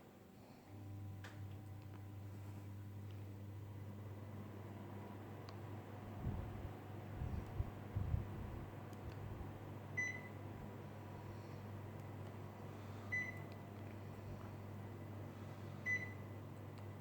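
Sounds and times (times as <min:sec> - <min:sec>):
steady low hum: 0:00.0 - 0:17.0
air conditioner beeping: 0:00.7 - 0:17.0.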